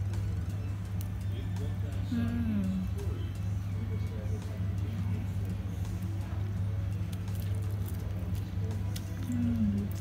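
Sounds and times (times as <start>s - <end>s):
background music: 0.0s - 10.0s
low steady hum: 0.0s - 10.0s.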